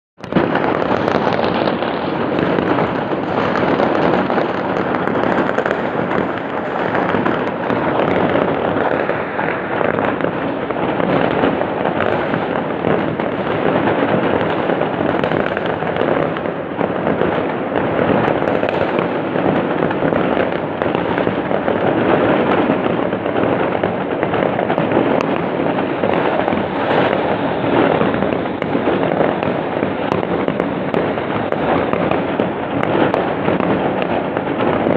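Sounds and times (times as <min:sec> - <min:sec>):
fireworks bangs and crackles: 0:00.2 - 0:34.9.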